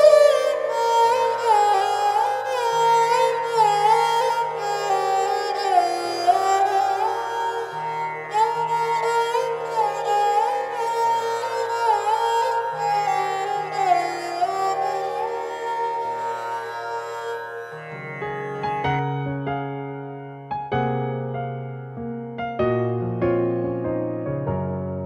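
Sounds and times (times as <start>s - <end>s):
string melody with sliding notes: 0.0s - 25.0s.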